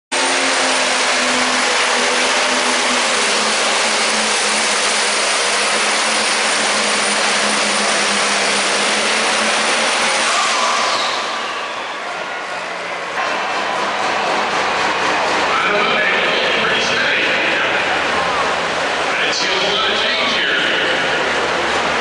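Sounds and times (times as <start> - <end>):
tractor engine droning with whine: 0.1 - 22.0.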